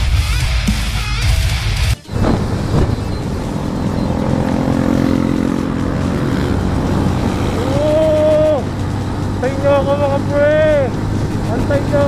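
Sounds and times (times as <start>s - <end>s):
motorcycle engine cruising: 0.7s - 12.0s
wind rumble on microphone: 2.1s - 12.0s.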